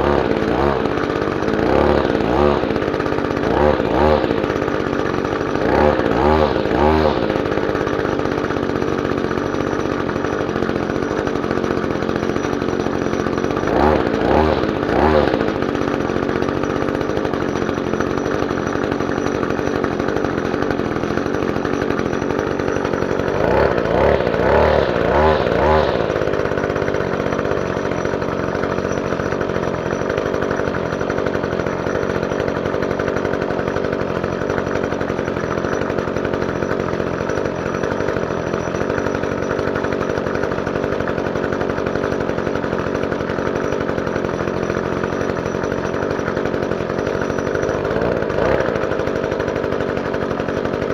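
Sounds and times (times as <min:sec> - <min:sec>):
string trimmer engine revving: 0:00.0 - 0:50.9.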